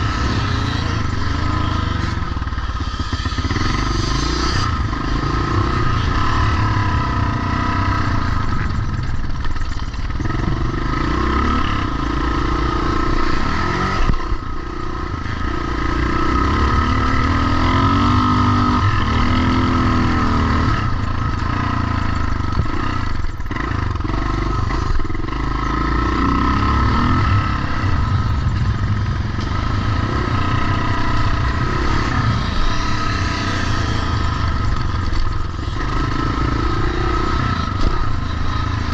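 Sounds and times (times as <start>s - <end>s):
motocross motorcycles revving: 0.0s - 38.9s.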